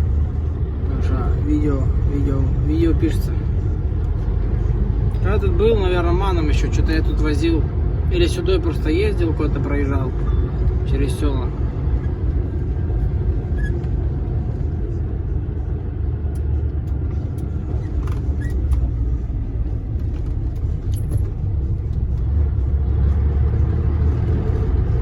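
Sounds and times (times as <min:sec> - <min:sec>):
road noise: 0:00.0 - 0:25.0
truck engine rumble: 0:00.0 - 0:25.0.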